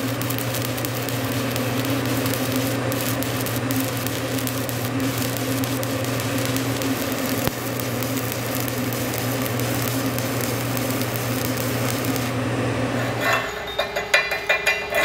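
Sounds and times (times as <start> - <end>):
welding crackle and sizzle: 0.0 - 13.0.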